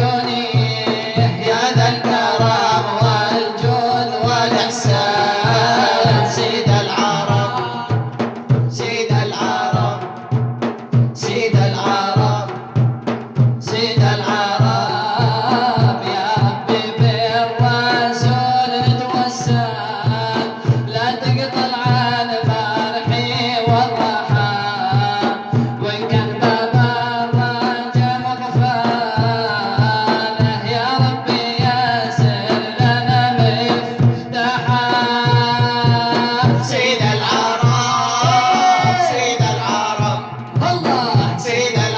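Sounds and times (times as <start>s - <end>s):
hand drum beat: 0.0s - 41.9s
men singing: 0.0s - 41.9s.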